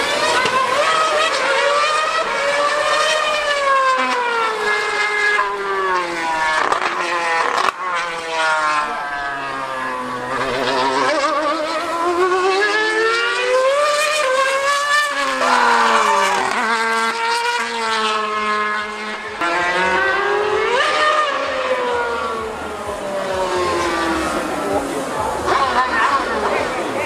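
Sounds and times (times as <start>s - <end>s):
high-revving racing engine: 0.0s - 27.0s.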